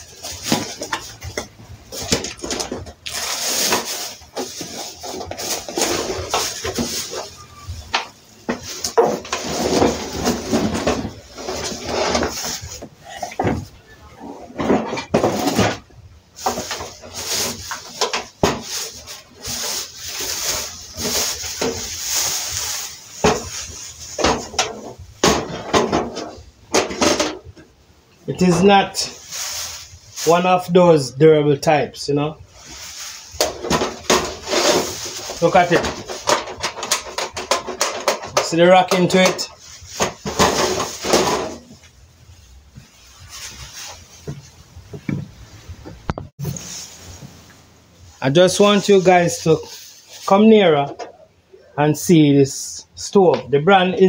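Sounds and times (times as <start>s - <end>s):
plastic wrapping crinkling: 0.0s - 13.9s, 15.1s - 27.1s, 28.4s - 30.8s, 32.4s - 44.7s, 46.4s - 50.9s
cardboard and plastic rustling: 0.0s - 27.7s, 28.3s - 31.1s, 32.4s - 51.2s.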